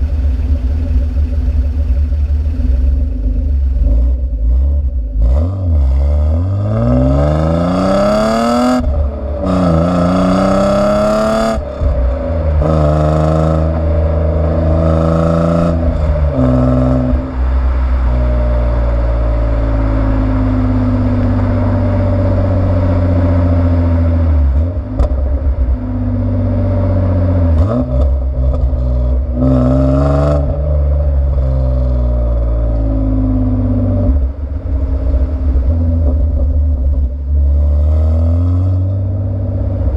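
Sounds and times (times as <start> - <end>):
car engine accelerating hard: 0.0 - 39.9.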